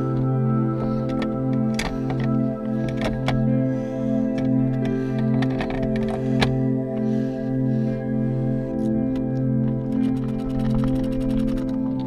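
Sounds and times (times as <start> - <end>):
instrumental music with sustained tones: 0.0 - 12.0.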